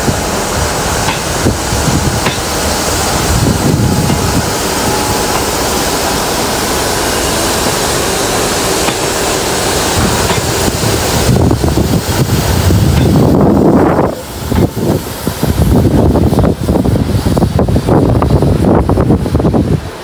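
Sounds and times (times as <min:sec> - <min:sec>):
wind buffeting microphone: 0:00.0 - 0:07.0, 0:08.6 - 0:20.0
train rumbling past: 0:00.0 - 0:20.0.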